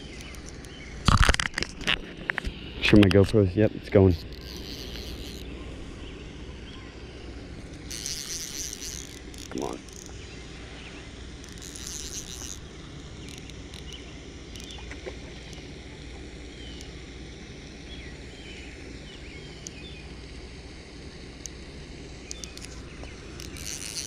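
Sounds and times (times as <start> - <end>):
high buzzing: 0.0 - 24.0.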